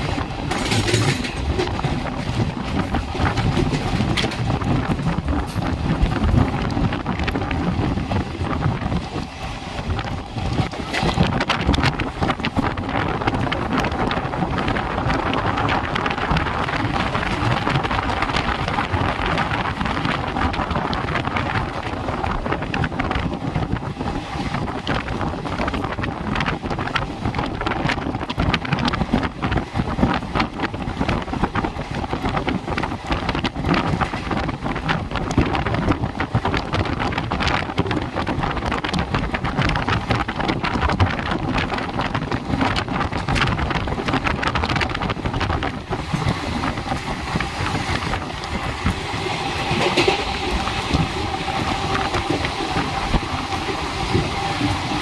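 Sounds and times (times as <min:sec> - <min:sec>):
train rushing: 0:00.0 - 0:55.0
wind buffeting microphone: 0:00.0 - 0:55.0.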